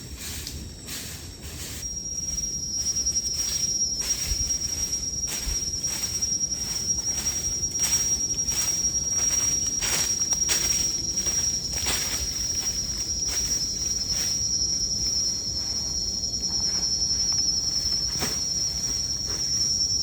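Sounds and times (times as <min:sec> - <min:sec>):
insect droning: 0:00.0 - 0:20.0.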